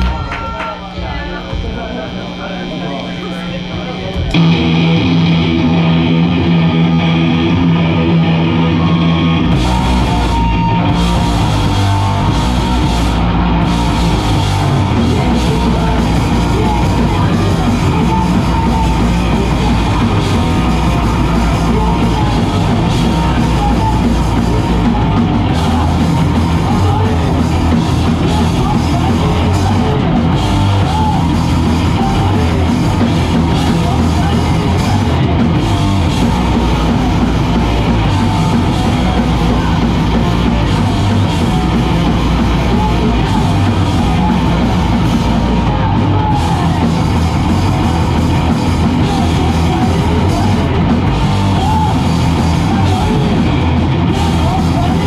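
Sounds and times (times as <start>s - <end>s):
distorted guitar and bass: 0.0s - 55.0s
drums and cymbals crashing: 0.0s - 55.0s.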